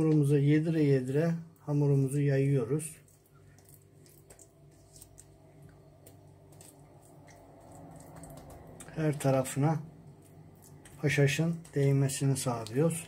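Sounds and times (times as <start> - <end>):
hand squishing paste on dough: 0.0 - 13.0
low steady hum: 0.0 - 13.0.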